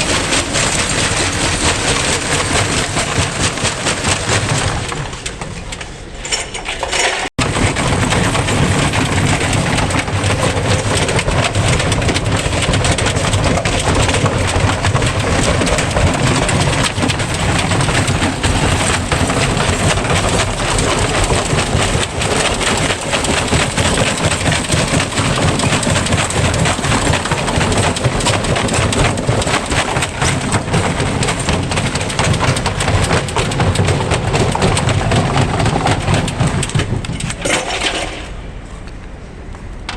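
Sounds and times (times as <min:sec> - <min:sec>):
washing machine banging and rattling: 0:00.0 - 0:38.4.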